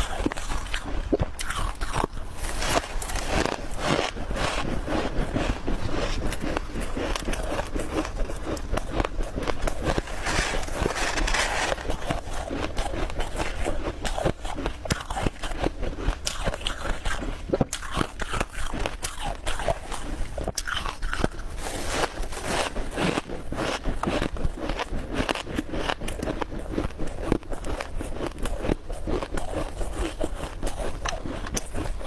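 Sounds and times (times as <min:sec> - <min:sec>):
ice being chewed: 0:00.0 - 0:32.0.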